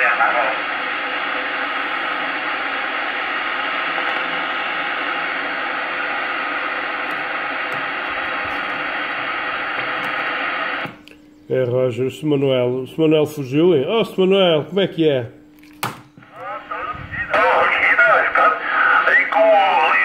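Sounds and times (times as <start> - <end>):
radio static hiss: 0.0 - 15.4, 16.0 - 20.0.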